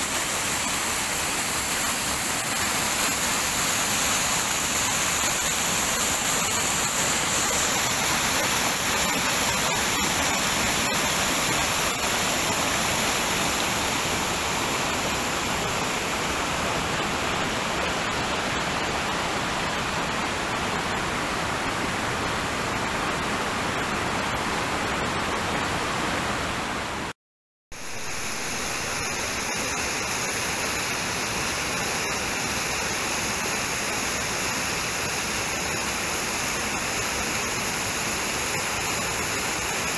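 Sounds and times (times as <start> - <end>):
stream rushing over boulders: 0.0 - 27.1, 27.8 - 39.9.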